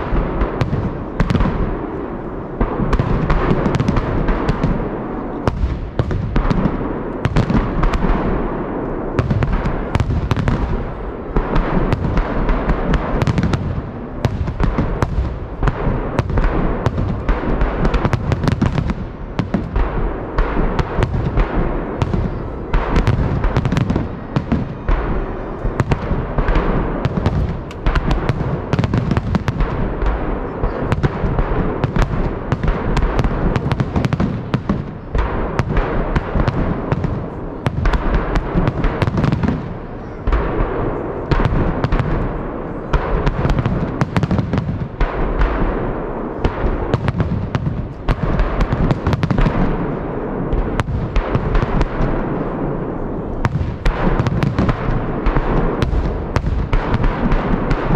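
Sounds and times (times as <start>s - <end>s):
fireworks bursting with loud bangs: 0.0s - 57.9s
fireworks crackling: 0.0s - 57.9s.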